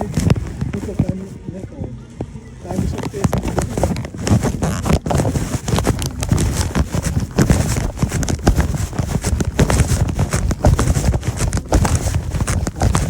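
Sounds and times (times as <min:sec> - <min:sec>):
hurried footsteps: 0:00.0 - 0:01.8, 0:02.6 - 0:13.0.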